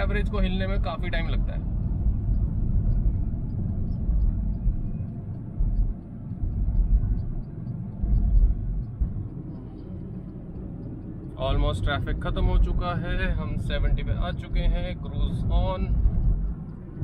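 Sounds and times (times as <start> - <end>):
car cabin rumble: 0.0 - 17.0.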